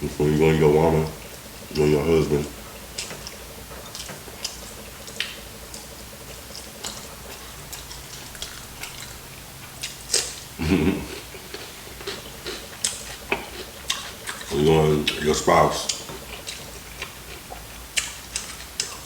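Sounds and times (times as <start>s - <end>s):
person chewing and mouth smacks: 2.8s - 5.9s, 6.5s - 19.0s.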